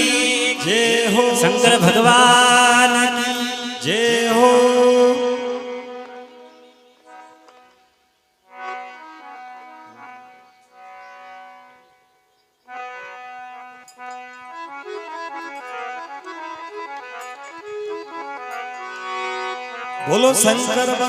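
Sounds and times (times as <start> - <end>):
harmonium melody: 0.0 - 21.0.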